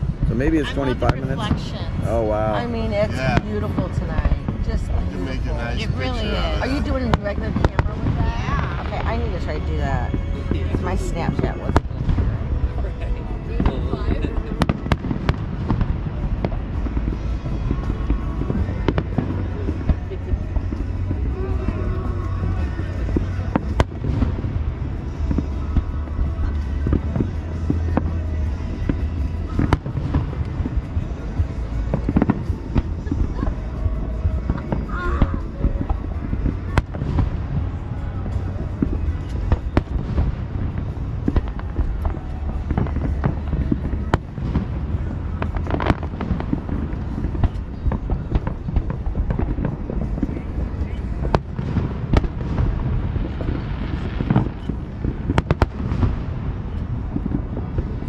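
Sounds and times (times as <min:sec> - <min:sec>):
fireworks crackling and banging: 0:00.0 - 0:58.0
low rumble: 0:00.0 - 0:58.0.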